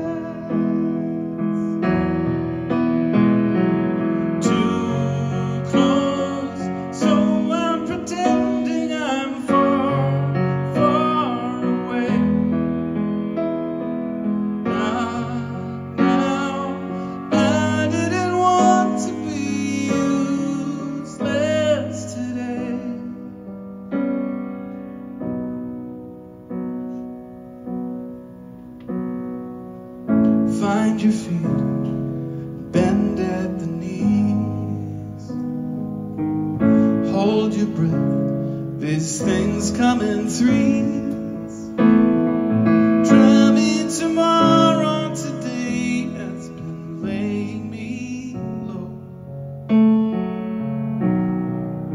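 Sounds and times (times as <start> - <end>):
piano playing chords and melody: 0.0 - 51.9.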